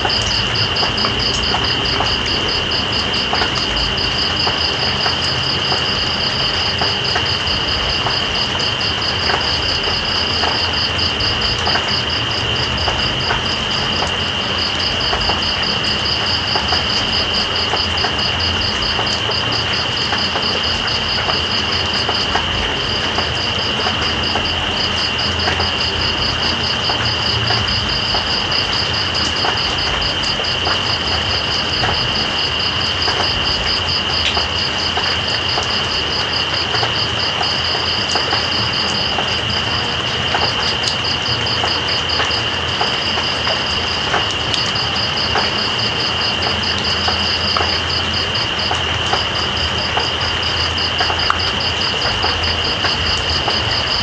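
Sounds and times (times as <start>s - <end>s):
rain hiss: 0.0s - 54.0s
raindrop ticks: 0.0s - 54.0s.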